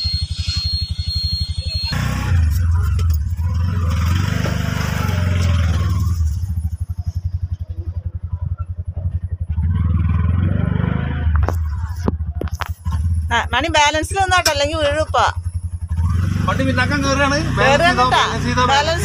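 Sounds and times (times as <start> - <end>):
auto-rickshaw engine chugging: 0.0 - 19.0.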